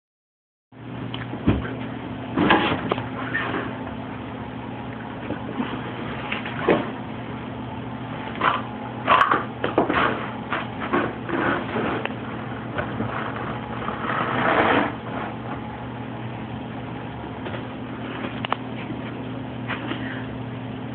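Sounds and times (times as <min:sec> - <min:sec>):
steady low hum: 0:00.8 - 0:20.9.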